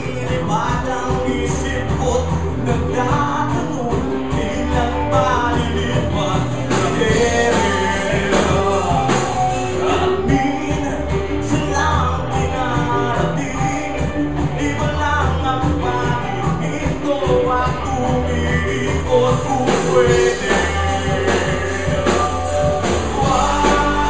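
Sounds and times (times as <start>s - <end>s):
man singing into a microphone: 0.0s - 24.0s
rock band playing: 0.0s - 24.0s.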